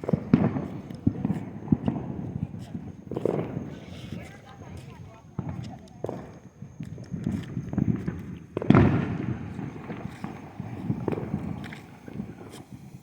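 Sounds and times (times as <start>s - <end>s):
firework bang: 0.0s - 13.0s.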